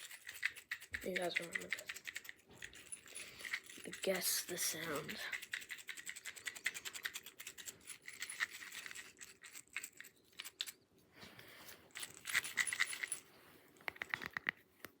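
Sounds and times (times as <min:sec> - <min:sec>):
small metal pieces jingling: 0:00.0 - 0:10.8, 0:11.9 - 0:13.3.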